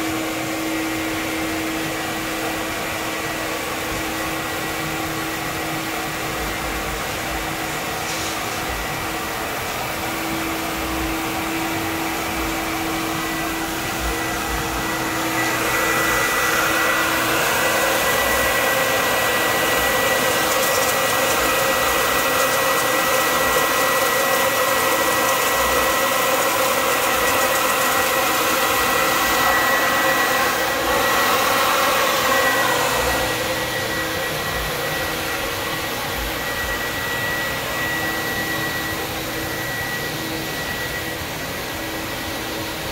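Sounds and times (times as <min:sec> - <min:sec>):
mat wash machine whirring: 0:00.0 - 0:42.9
high whine: 0:06.5 - 0:42.9.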